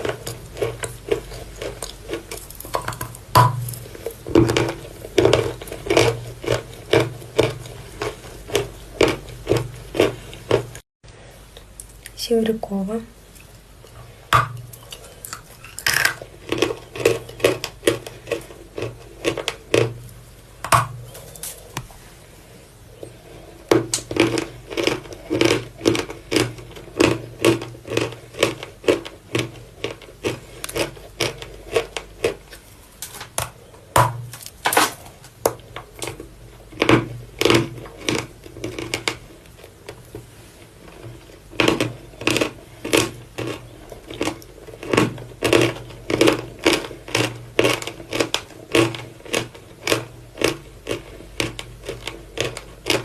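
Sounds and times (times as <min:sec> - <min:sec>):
crunching chalk being chewed: 0:00.0 - 0:10.8, 0:14.6 - 0:20.2, 0:23.0 - 0:33.7, 0:35.6 - 0:53.0.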